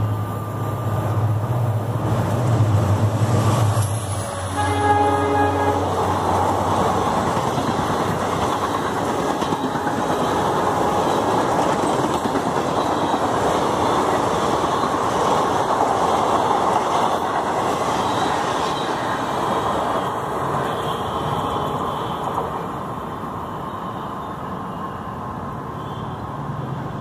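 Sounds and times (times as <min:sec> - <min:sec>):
train wheels rushing on rails: 0:00.0 - 0:27.0.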